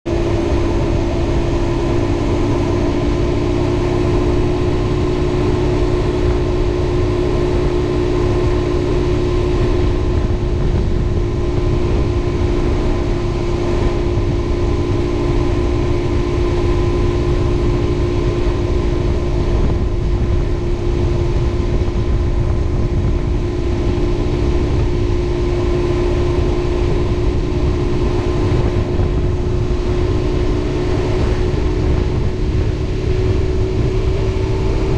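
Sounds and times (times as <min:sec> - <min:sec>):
motorcycle engine running: 0:00.0 - 0:34.9
wind rumble on microphone: 0:00.1 - 0:34.9.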